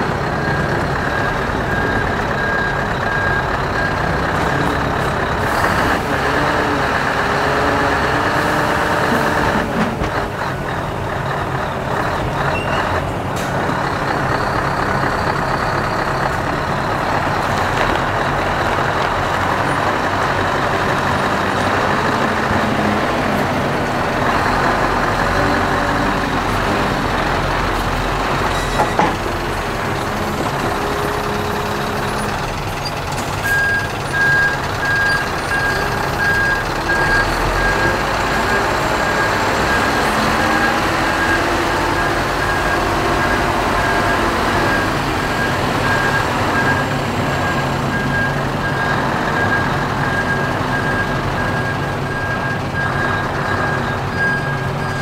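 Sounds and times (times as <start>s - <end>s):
reversing alarm beeping: 0.0s - 9.6s, 19.3s - 55.0s
truck diesel engine running: 0.0s - 55.0s.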